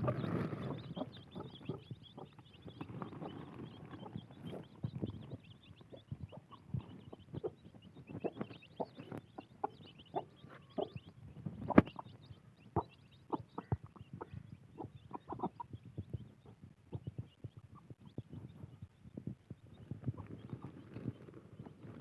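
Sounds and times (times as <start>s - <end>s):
hen clucking: 0.0s - 18.8s
chicks peeping: 0.0s - 22.0s.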